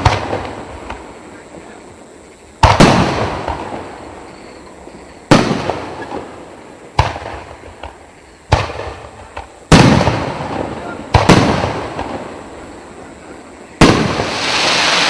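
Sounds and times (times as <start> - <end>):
firework crackle: 0.0 - 15.0.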